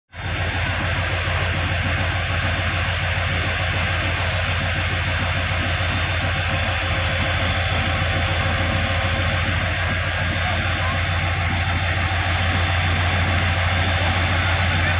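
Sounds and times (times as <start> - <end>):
diesel locomotive engine drone: 0.1 - 14.9
high whine: 0.1 - 14.9.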